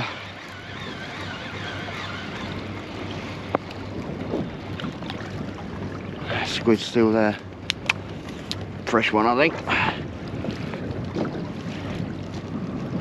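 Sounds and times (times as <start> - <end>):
water moving around boat: 0.0 - 13.0
wind on microphone: 0.0 - 13.0.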